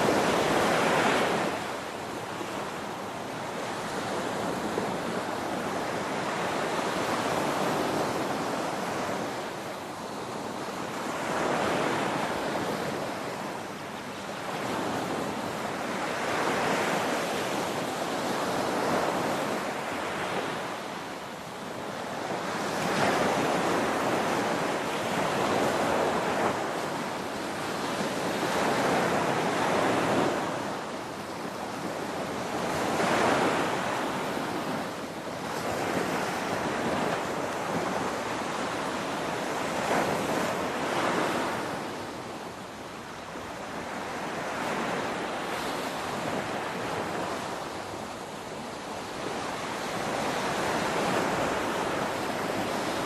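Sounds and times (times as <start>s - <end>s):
ocean waves breaking on shore: 0.0s - 53.0s.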